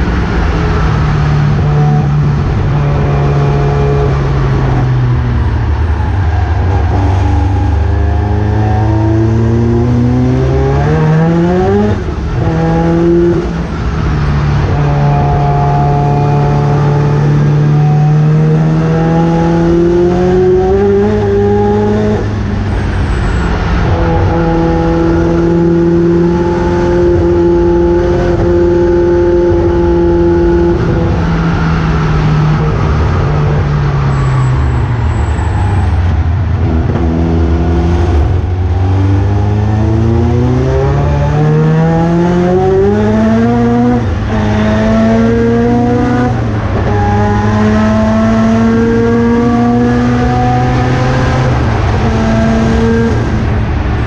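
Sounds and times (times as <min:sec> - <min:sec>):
rotary race engine revving: 0:00.0 - 0:54.0.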